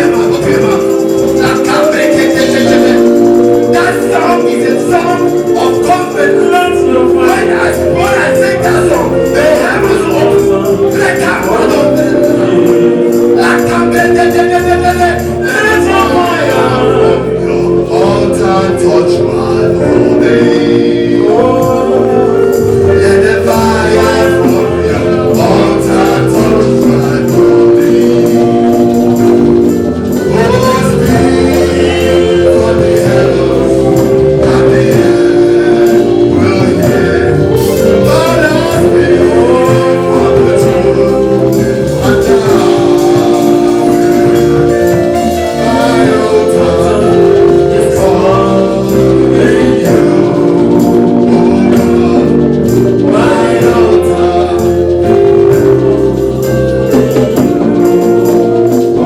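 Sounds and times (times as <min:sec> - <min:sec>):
voices singing gospel music: 0:00.0 - 0:59.0.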